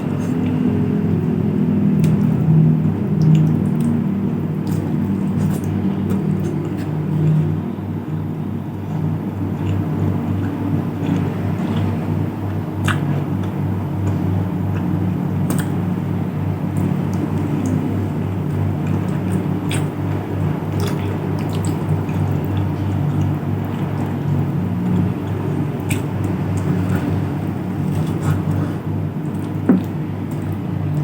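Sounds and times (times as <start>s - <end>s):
steady low rumble: 0.0s - 31.0s
wet chewing sounds: 0.0s - 31.0s.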